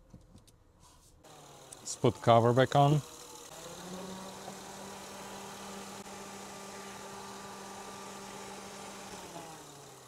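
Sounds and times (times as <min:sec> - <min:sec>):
car engine idling: 0:01.3 - 0:10.0.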